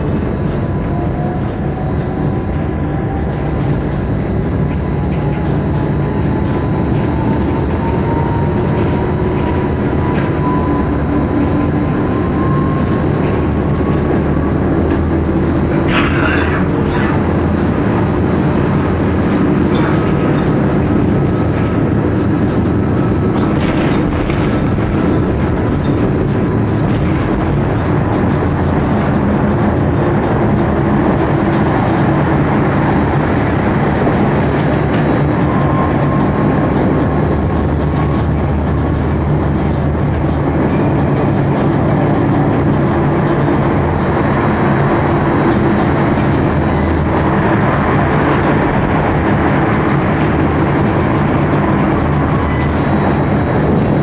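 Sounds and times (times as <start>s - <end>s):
tram wheels rumbling on rail: 0.0s - 54.0s.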